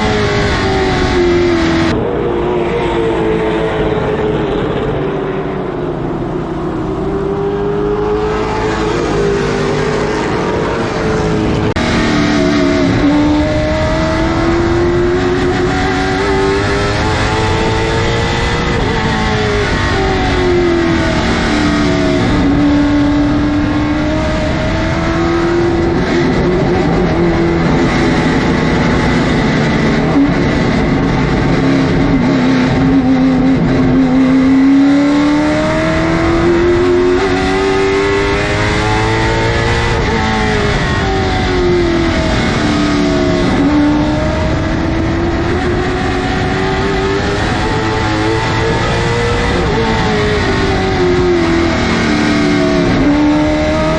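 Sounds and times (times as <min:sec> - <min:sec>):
race car engine at speed: 0:00.0 - 0:53.9.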